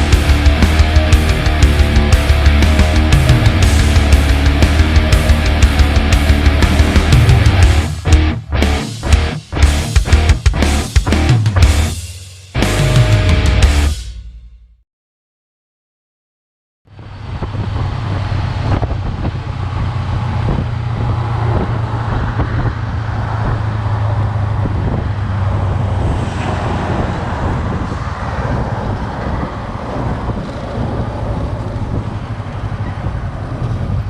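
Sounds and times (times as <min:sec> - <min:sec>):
car road noise: 0:00.0 - 0:14.0, 0:16.9 - 0:34.0.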